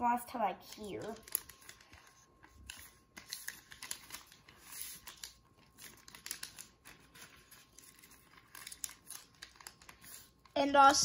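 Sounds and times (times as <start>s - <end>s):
paper being folded and creased: 0.6s - 10.6s.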